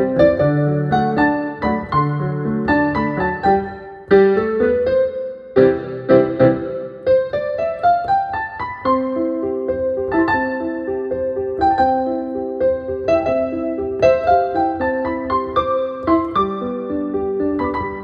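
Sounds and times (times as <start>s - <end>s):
digital piano playing: 0.0s - 18.0s.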